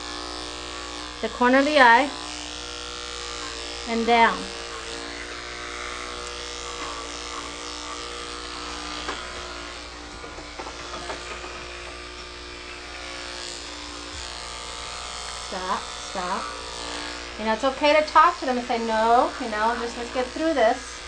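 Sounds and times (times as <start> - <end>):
electric pet clipper humming: 0.0 - 21.0.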